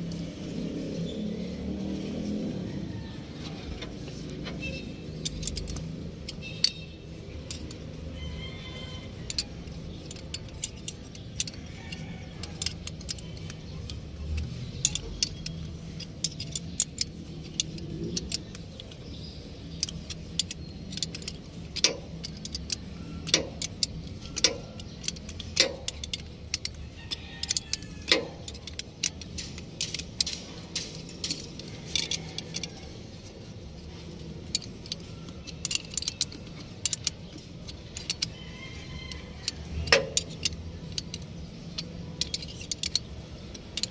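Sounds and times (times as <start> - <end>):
metal tools clinking: 0.0 - 43.9.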